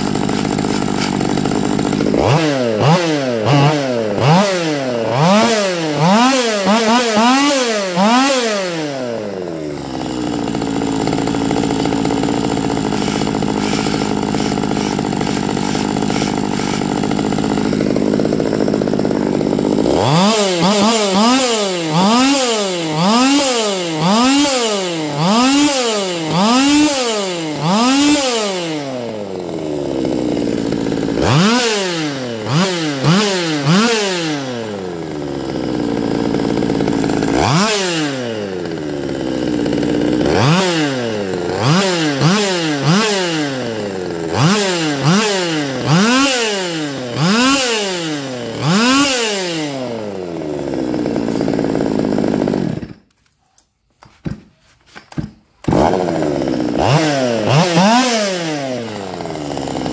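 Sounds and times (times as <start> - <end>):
chainsaw engine revving: 0.0 - 53.1, 55.6 - 59.9.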